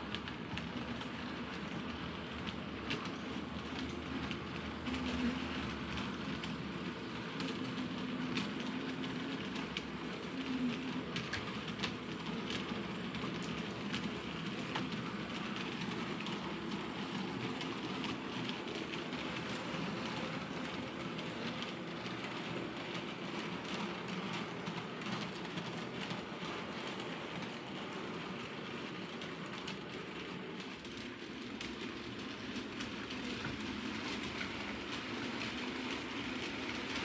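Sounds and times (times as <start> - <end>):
wheels clicking over rail joints: 0.0 - 37.0.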